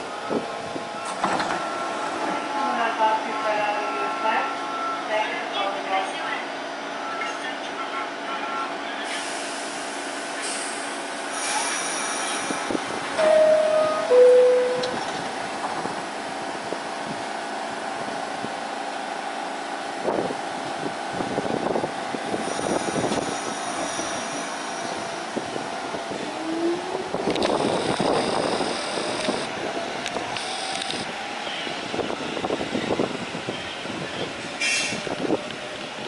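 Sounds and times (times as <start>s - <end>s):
subway train humming and whining: 0.0s - 36.0s.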